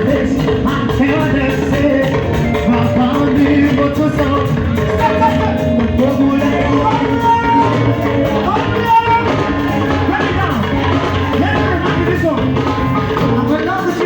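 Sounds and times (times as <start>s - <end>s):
voices singing along: 0.0s - 12.0s
live gospel band music: 0.0s - 14.0s.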